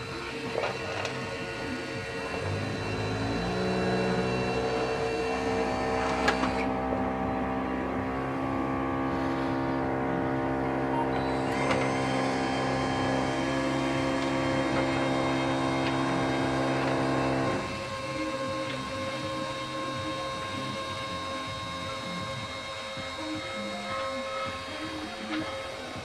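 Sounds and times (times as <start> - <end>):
small electric motor whine: 0.0 - 26.0.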